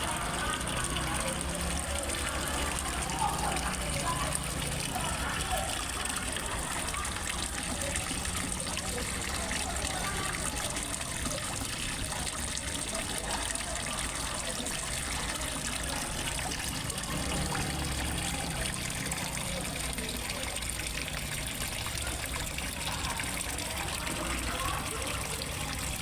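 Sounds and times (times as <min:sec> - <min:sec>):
water trickling into a pond: 0:00.0 - 0:26.0.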